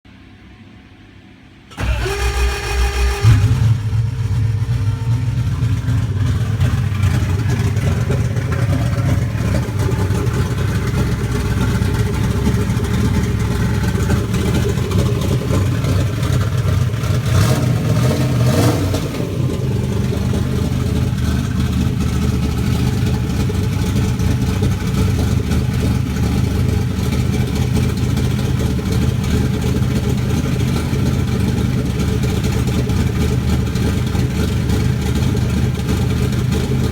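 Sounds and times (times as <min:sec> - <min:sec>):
engine idling roughly: 0:01.7 - 0:36.9.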